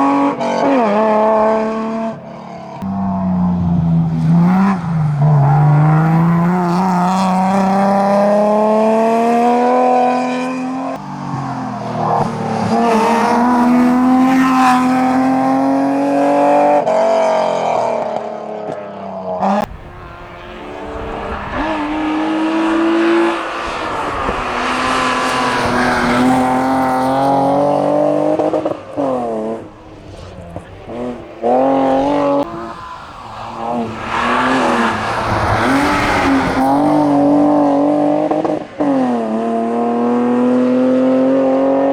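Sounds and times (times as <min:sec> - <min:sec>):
racing car engine revving: 0:00.0 - 0:41.9.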